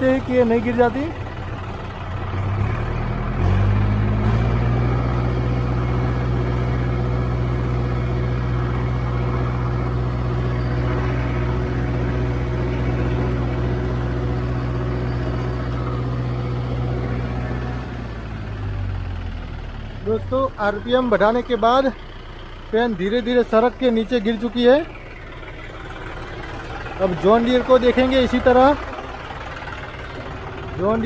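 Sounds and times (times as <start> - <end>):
tractor diesel engine revving: 0.0 - 31.0.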